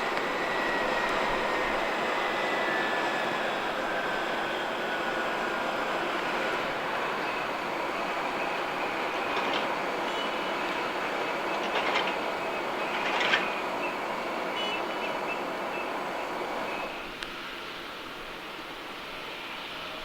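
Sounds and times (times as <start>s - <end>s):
faint high whine: 0.0s - 20.0s
jet engines rushing: 0.0s - 20.0s.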